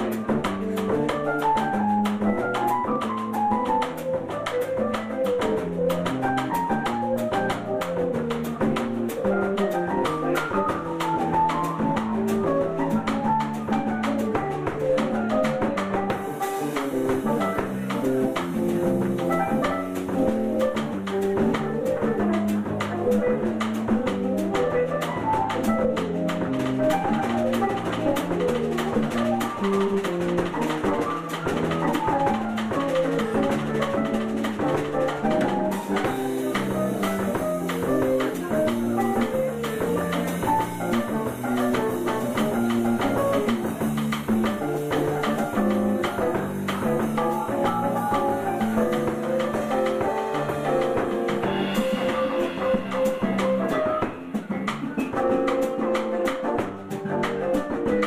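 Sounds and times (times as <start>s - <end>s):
fast drum beat: 0.0s - 58.0s
keyboard playing chords: 0.0s - 58.0s.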